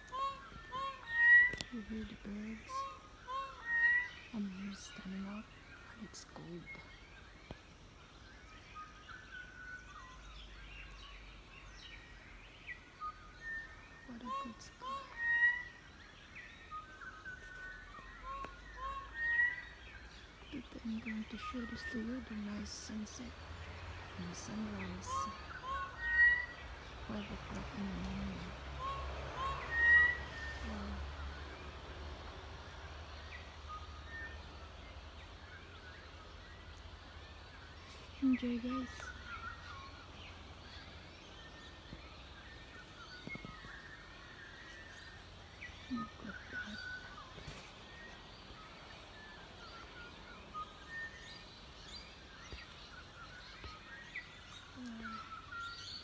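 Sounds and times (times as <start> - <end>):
birds chirping: 0.0 - 56.0
steady background hiss: 0.0 - 56.0.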